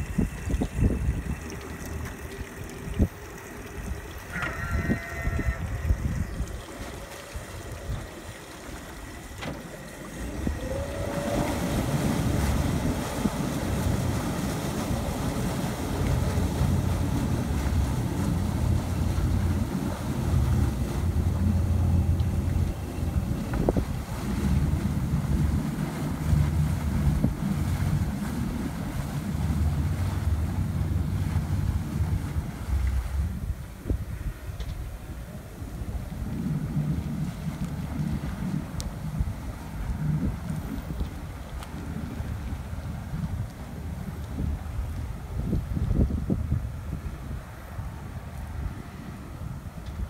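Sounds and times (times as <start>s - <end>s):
outboard engines running slowly: 0.0s - 50.0s
propellers churning water: 0.0s - 50.0s
wind buffeting microphone: 0.0s - 50.0s.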